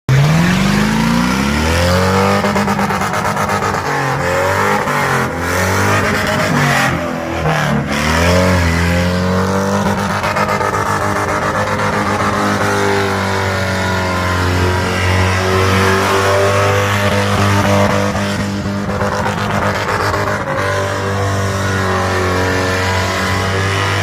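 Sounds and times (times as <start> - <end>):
truck engine revving hard: 0.1 - 24.0.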